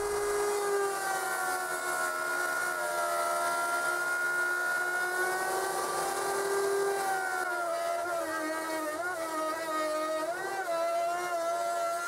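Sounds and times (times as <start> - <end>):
router cutting wood: 0.0 - 12.0.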